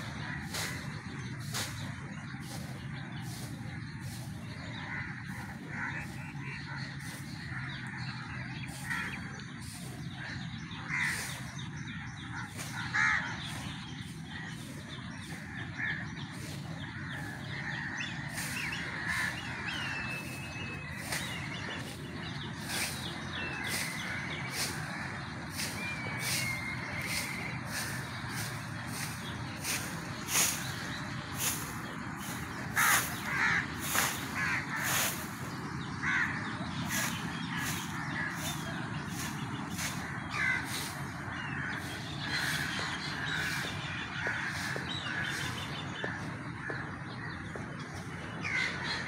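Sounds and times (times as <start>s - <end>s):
crows cawing: 3.7s - 47.6s, 48.4s - 49.0s.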